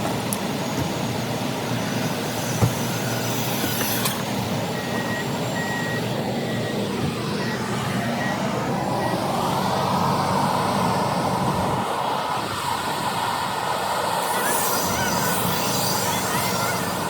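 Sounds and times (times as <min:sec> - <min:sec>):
car wash machinery rushing: 0:00.0 - 0:17.0.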